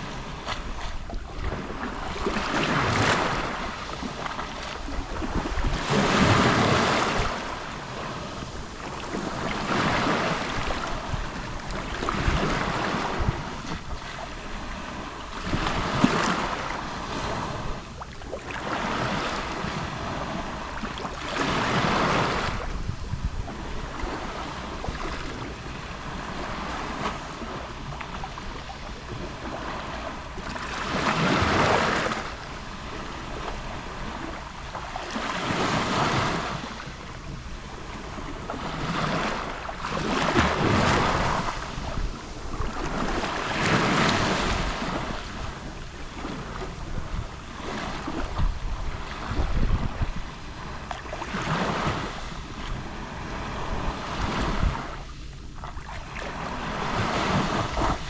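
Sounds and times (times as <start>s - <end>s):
waves lapping on shore: 0.0s - 58.0s
wind on microphone: 0.0s - 58.0s.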